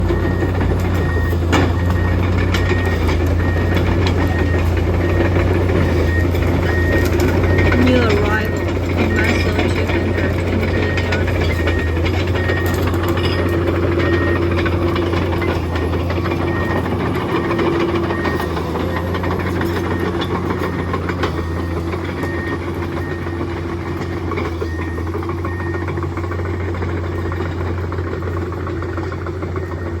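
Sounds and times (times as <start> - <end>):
excavator diesel engine droning: 0.0 - 30.0.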